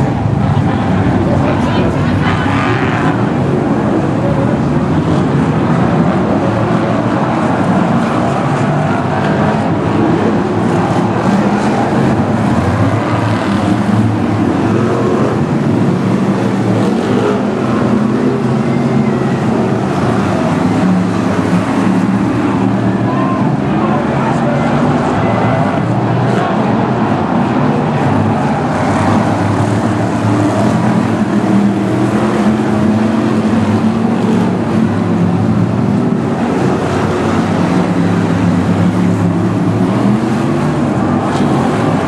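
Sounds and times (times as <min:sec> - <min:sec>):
racing car engines: 0:00.0 - 0:42.0.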